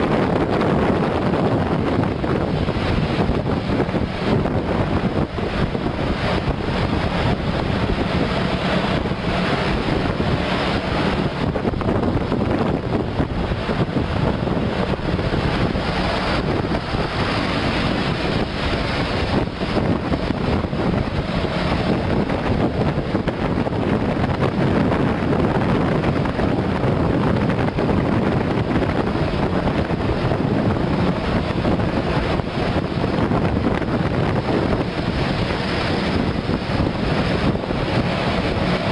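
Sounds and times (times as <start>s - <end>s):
traffic road noise: 0.0s - 38.9s
wind buffeting microphone: 0.0s - 38.9s.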